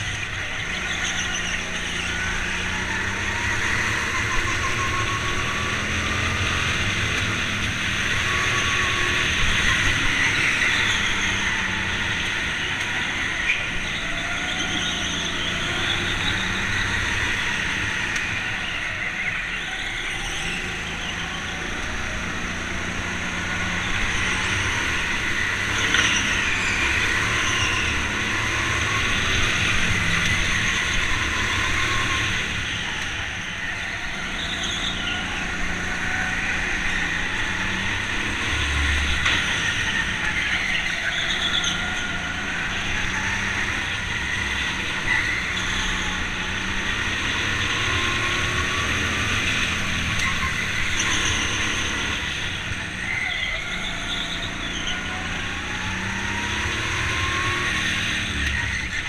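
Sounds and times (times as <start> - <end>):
go-kart engine: 0.0 - 59.0.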